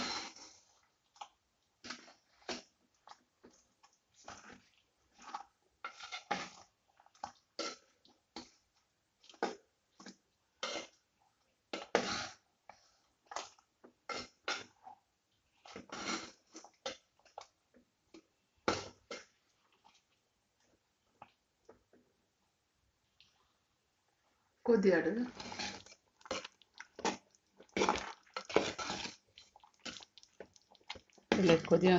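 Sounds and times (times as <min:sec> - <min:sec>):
spoon stirring thick food in clay pot: 0:00.0 - 0:22.2, 0:25.3 - 0:31.9.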